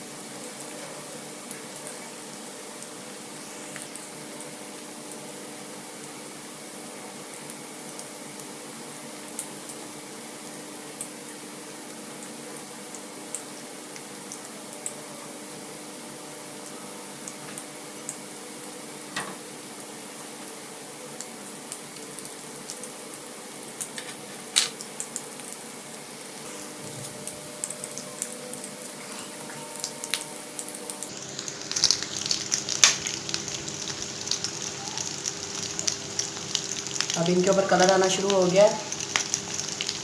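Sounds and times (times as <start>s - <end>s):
food deep-frying in hot oil: 0.0s - 40.0s.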